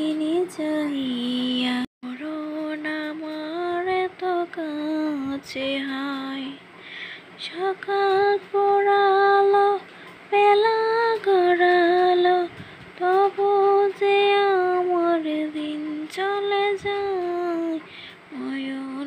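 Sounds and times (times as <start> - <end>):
woman singing slow song: 0.0 - 19.0.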